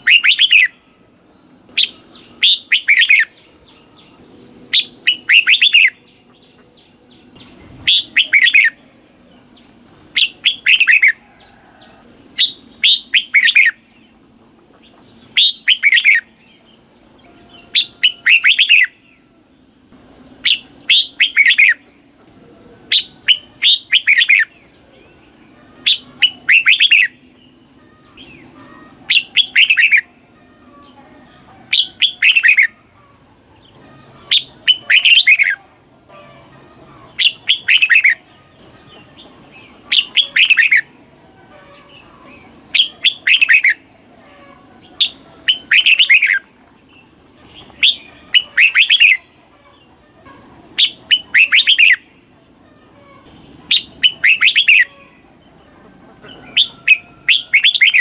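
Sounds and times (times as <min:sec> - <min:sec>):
bird singing song phrases: 0:00.0 - 0:50.0, 0:50.8 - 0:58.0.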